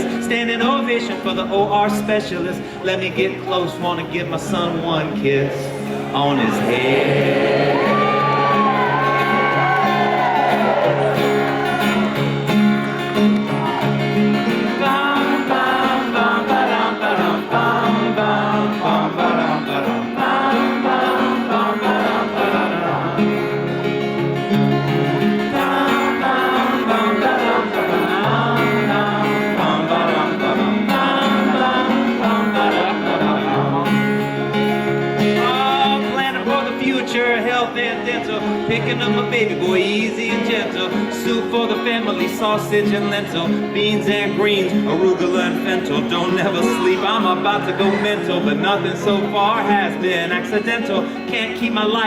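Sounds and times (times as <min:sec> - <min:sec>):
live folk-rock band playing: 0:00.0 - 0:52.0.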